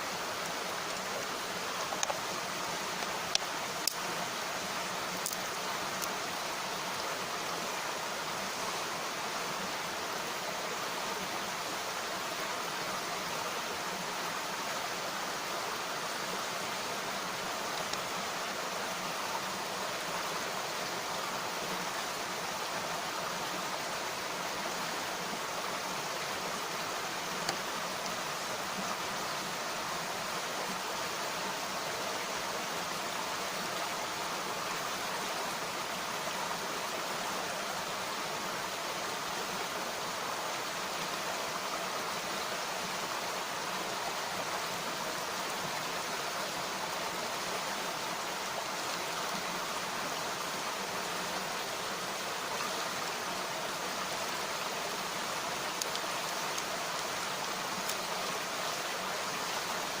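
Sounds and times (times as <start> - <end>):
stream water rushing: 0.0 - 60.0.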